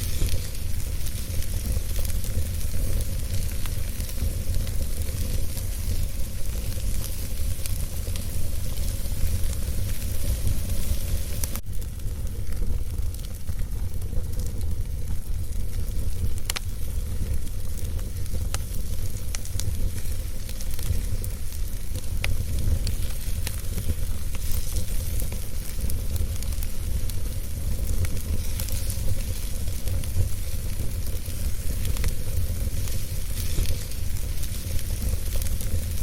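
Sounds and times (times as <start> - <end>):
sizzling hiss: 0.0 - 36.0
wood fire crackling: 0.0 - 36.0.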